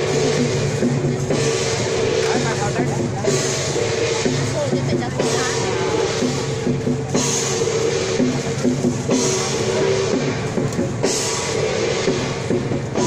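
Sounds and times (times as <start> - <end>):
cymbal crash: 0.0 - 13.0
procession music with drums: 0.0 - 13.0.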